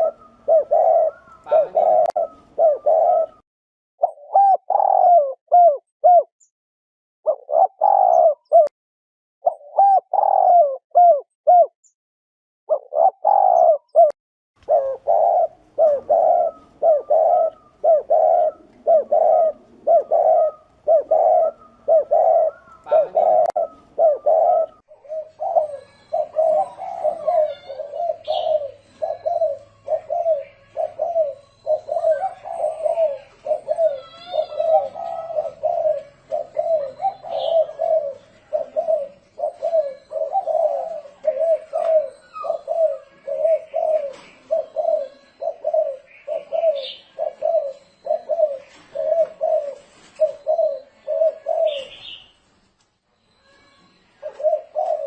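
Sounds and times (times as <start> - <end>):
dove cooing: 0.0 - 3.4, 4.0 - 6.3, 7.3 - 8.7, 9.4 - 11.7, 12.7 - 52.5, 53.3 - 55.0.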